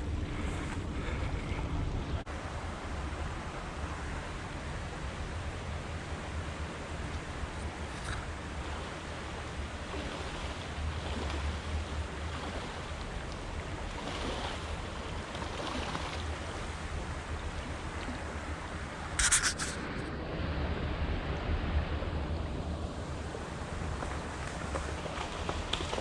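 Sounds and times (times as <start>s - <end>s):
water rushing: 2.2s - 26.0s.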